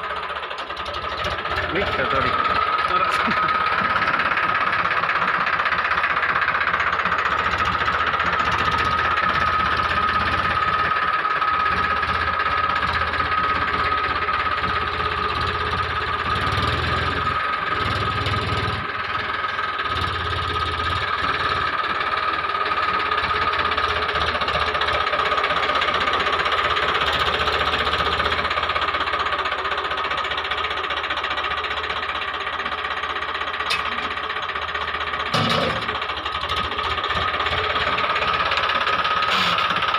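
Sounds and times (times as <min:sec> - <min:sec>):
tractor loader engine running: 0:00.0 - 0:39.9.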